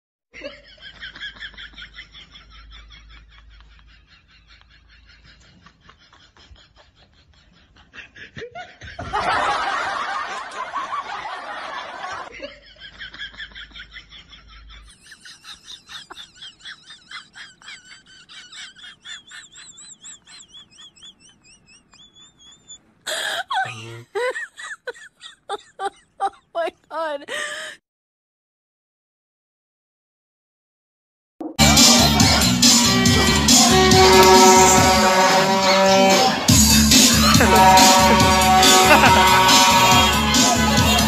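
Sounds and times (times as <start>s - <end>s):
high wavering laughter: 0.4s - 26.9s, 31.7s - 41.0s.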